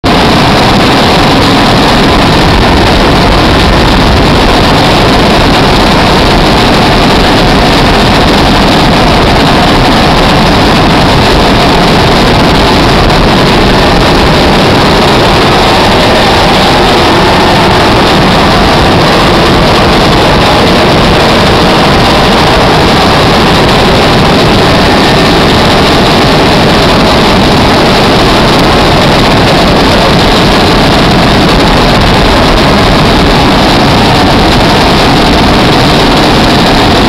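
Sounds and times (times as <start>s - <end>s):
helicopter engine and rotor: 0.0s - 37.0s.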